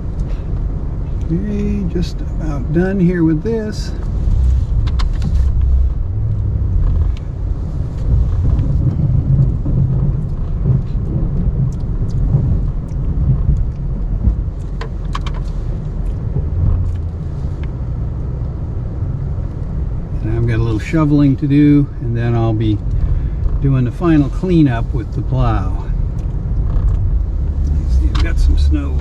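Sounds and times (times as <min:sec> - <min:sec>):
pickup engine rumbling: 0:00.0 - 0:29.0.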